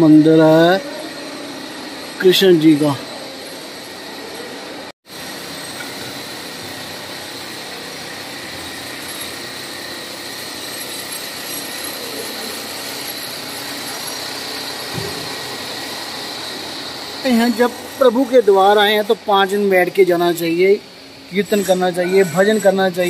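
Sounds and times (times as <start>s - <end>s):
electric fans whirring: 0.0s - 23.0s.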